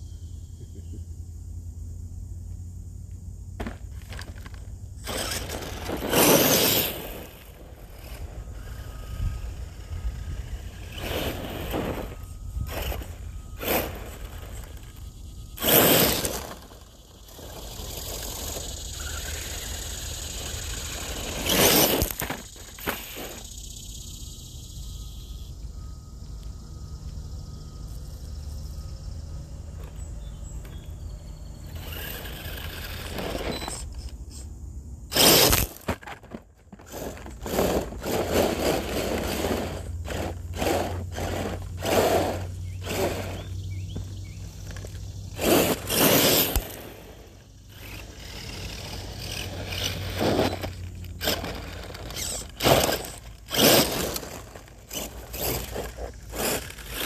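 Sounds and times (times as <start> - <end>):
low steady hum: 0.0 - 57.0
tyres scraping and crunching gravel: 3.6 - 23.7, 26.4 - 34.4, 35.1 - 57.0.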